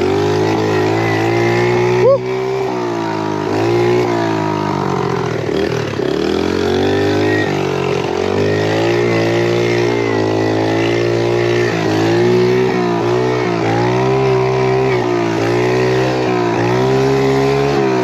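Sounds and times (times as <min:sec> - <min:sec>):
pit bike engine revving: 0:00.0 - 0:18.0.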